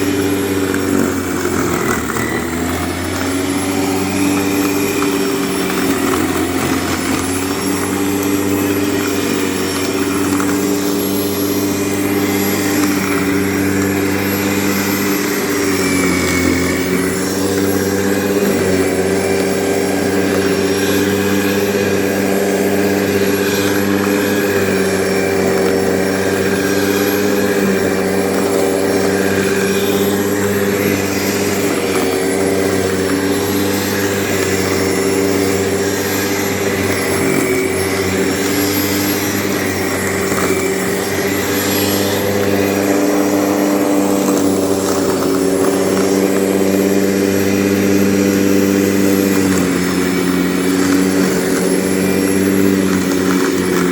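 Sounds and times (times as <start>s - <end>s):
electric lawn mower running: 0.0s - 53.9s.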